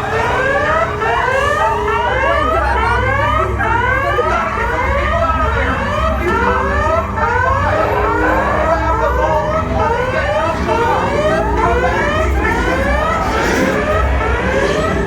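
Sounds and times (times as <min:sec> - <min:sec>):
whooping alarm sirens: 0:00.0 - 0:15.0.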